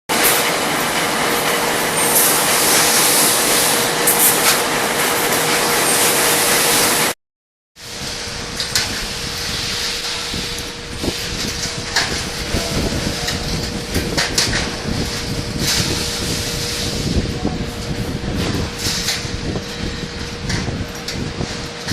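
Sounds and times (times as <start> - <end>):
welding machine running: 0.1 - 7.2, 7.8 - 21.9.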